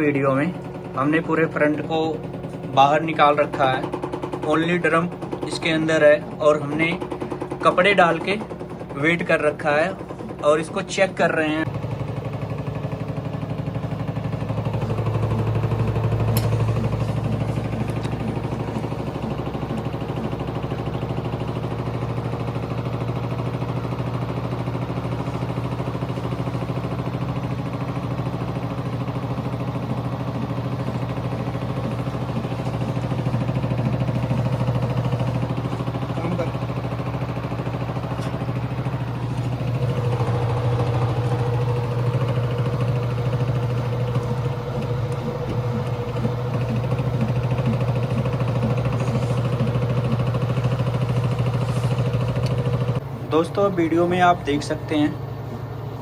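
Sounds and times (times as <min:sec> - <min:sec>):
washing machine motor and drum hum: 0:00.0 - 0:56.0.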